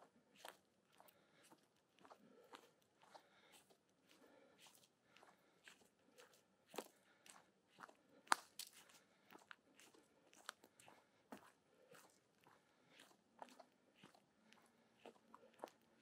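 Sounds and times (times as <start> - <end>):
footsteps crunching on path: 0.0 - 15.9.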